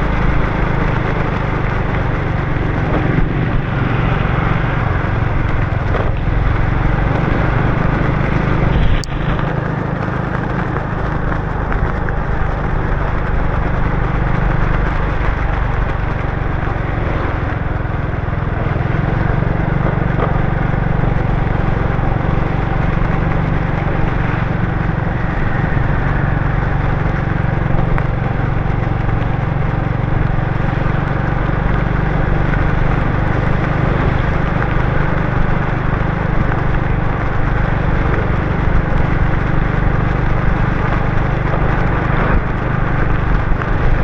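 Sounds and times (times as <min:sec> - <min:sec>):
motorbike engine running: 0:00.0 - 0:44.0
road noise on wet road: 0:00.0 - 0:44.0.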